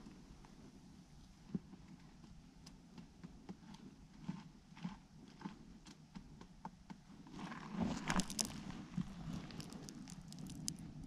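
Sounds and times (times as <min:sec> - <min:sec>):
faint irregular clicks and knocks: 0:01.2 - 0:11.0.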